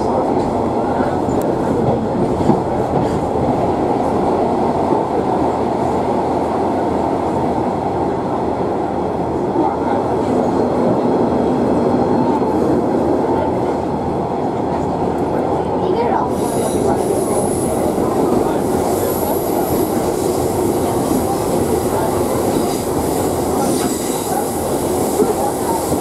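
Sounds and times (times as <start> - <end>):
train running noise inside carriage: 0.0 - 26.0.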